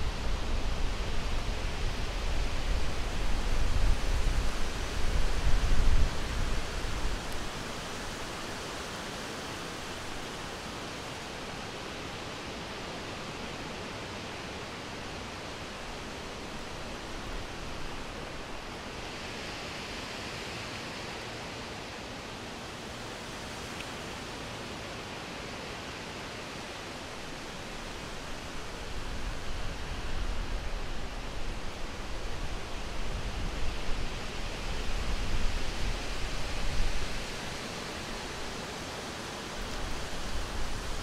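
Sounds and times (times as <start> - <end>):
steady wind hiss: 0.0 - 41.0.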